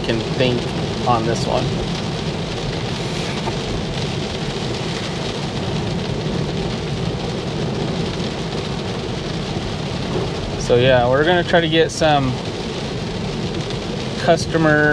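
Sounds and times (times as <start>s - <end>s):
heavy rain on car roof: 0.0s - 14.9s.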